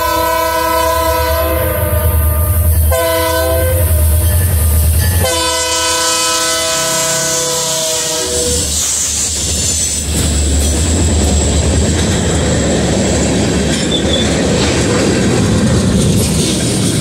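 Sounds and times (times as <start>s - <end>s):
diesel locomotive rumble: 0.0s - 17.0s
freight cars rumbling on rails: 0.0s - 17.0s.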